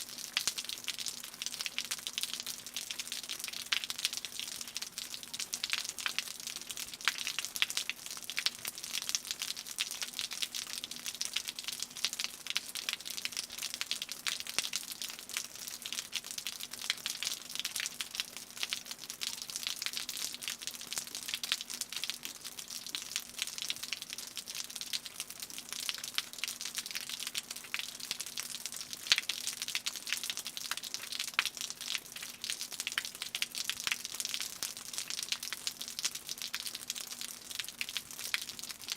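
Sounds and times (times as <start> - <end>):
rainwater dripping off roof: 0.0 - 38.9.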